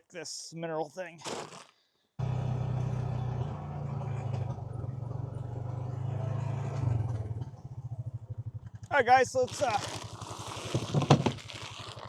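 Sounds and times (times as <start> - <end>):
vehicle engine humming: 2.2 - 12.0.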